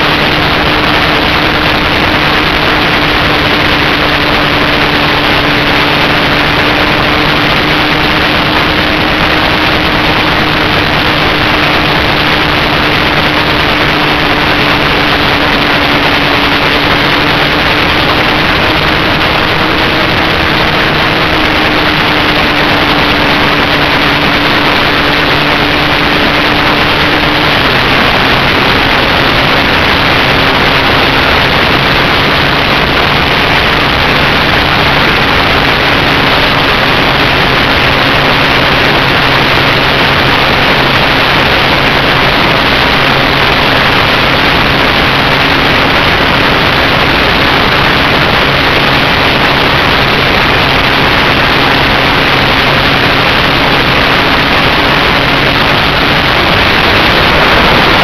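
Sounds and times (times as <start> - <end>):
propeller motor humming: 0.0 - 58.0
wind rushing over microphone: 0.0 - 58.0.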